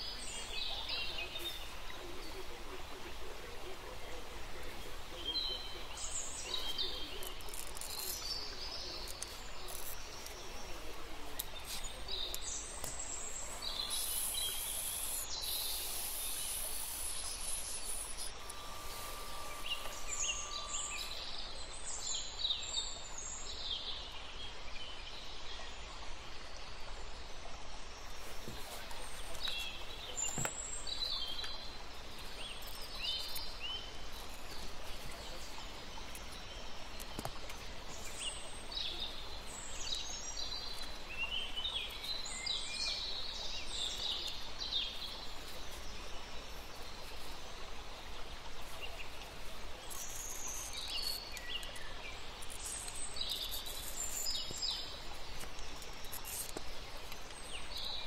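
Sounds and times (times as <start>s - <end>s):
birds chirping: 0.0s - 27.0s, 28.0s - 58.0s
steady background hiss: 0.0s - 58.0s.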